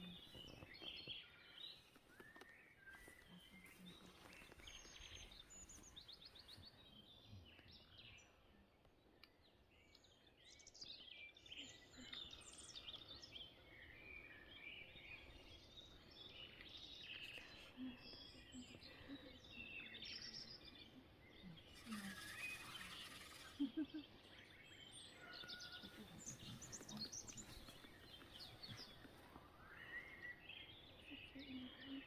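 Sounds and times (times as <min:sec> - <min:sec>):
small birds chirping and trilling: 0:00.0 - 0:32.0.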